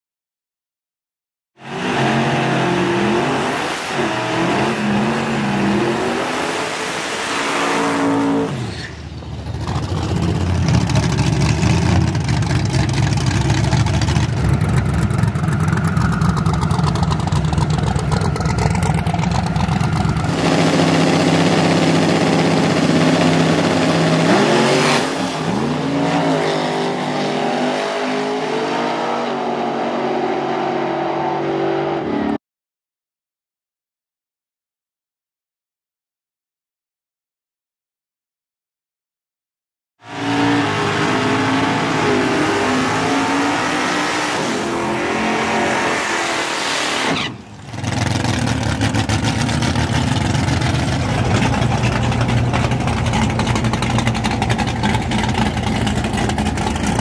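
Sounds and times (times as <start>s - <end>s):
race car engines revving: 1.6s - 32.4s, 40.0s - 57.0s.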